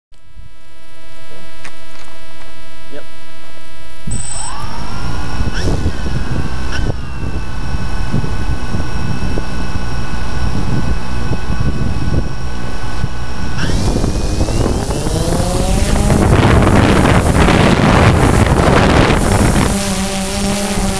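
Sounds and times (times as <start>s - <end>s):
drone motors buzzing: 0.2s - 20.9s
electronic whine: 0.2s - 20.9s.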